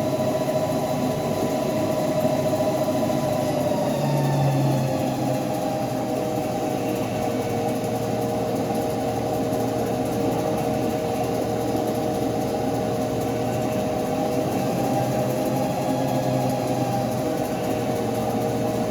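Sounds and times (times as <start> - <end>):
lathe machine hum: 0.0 - 18.9.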